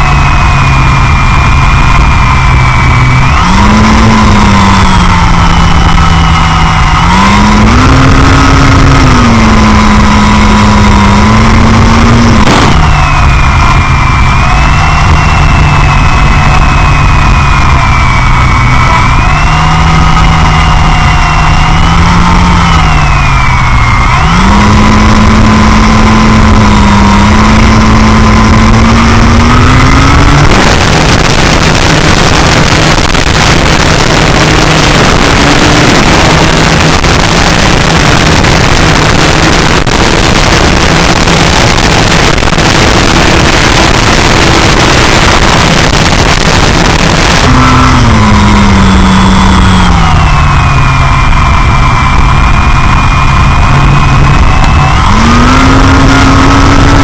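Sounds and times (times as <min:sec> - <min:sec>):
model plane motor hum: 0:00.0 - 0:57.0
wind rush on microphone: 0:00.0 - 0:57.0.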